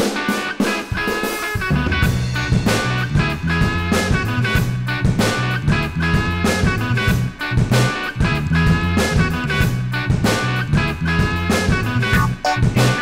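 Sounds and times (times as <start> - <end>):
music with steady beat: 0.0 - 13.0
bass line: 0.9 - 13.0.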